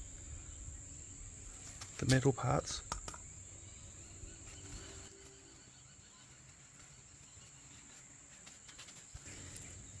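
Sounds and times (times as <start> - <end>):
thin high-pitched whine: 0.0 - 10.0.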